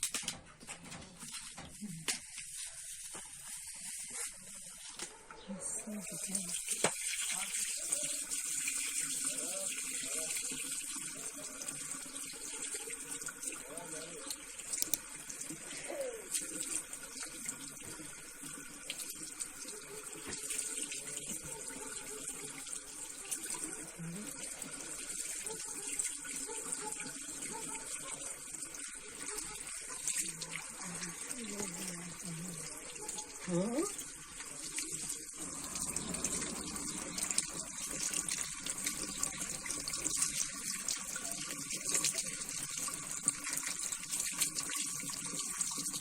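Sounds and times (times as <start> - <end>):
tap water running into sink: 5.9 - 15.7, 16.3 - 46.0.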